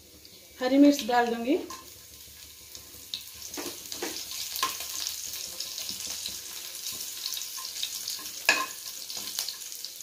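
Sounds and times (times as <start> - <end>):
seeds sizzling in hot oil: 0.0 - 10.0.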